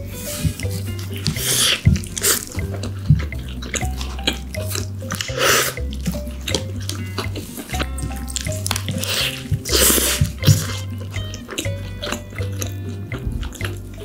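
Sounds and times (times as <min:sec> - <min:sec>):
background music with bass: 0:00.0 - 0:14.0
wet chewing with mouth clicks: 0:00.0 - 0:14.0.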